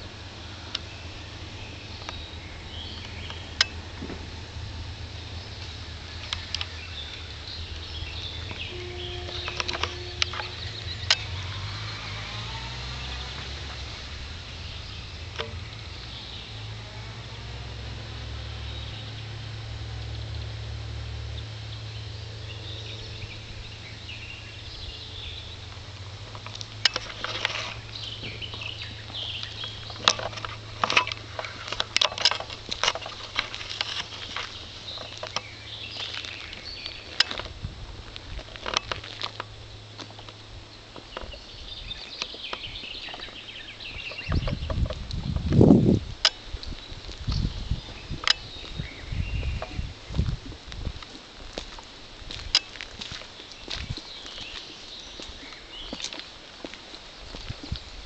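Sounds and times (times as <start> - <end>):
footsteps on paved road: 0.0 - 20.8, 21.4 - 58.0
low hum: 0.0 - 51.0
low rumble on microphone: 0.0 - 56.0.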